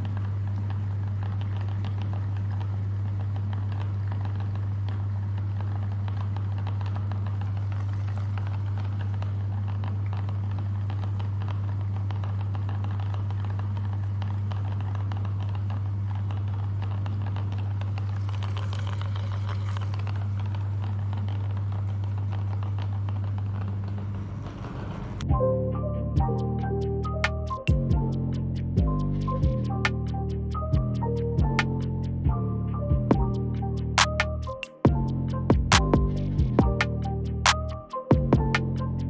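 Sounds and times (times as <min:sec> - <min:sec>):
music with sharp ticks: 0:00.0 - 0:24.2, 0:26.0 - 0:39.0.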